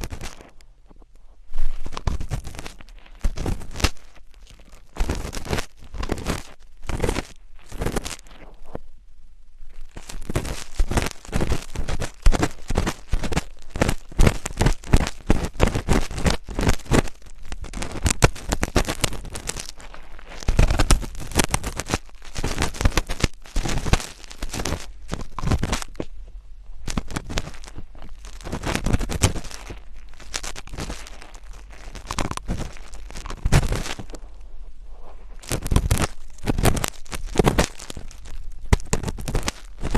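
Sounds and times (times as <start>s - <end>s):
scratching and scraping at microphone: 0.0s - 39.9s.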